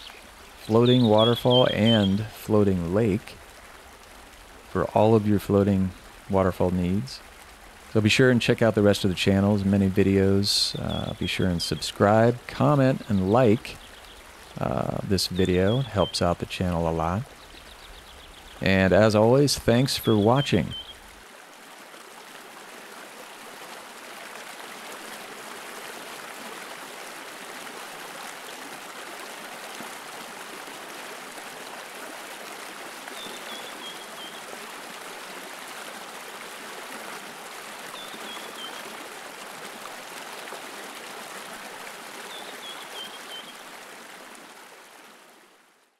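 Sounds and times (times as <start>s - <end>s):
stream water flowing: 0.0s - 45.9s.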